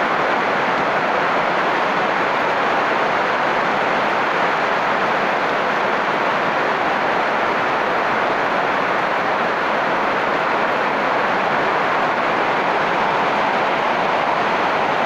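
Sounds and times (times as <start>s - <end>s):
heavy rain on wet ground: 0.0s - 15.0s.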